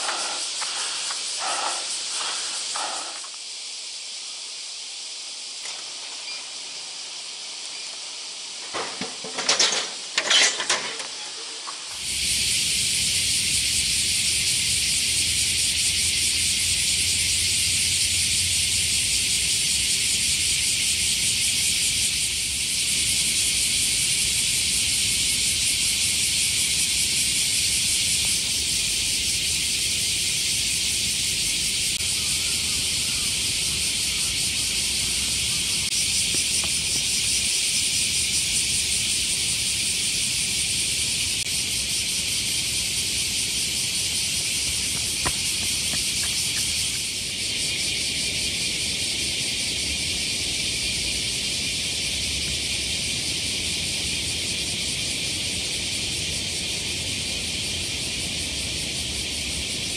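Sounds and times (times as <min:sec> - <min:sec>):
cicadas shrilling: 0:00.0 - 0:59.9.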